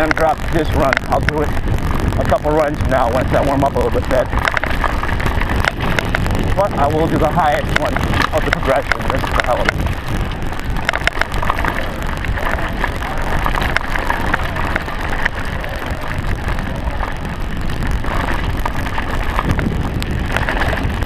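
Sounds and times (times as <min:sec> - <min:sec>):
bike clicks and rattles: 0:00.0 - 0:21.0
wind rush on microphone: 0:00.0 - 0:21.0.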